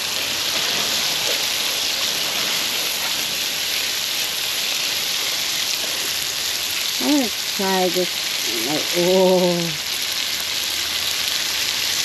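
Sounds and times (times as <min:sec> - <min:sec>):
garlic and onions sizzling in oil: 0:00.0 - 0:12.0.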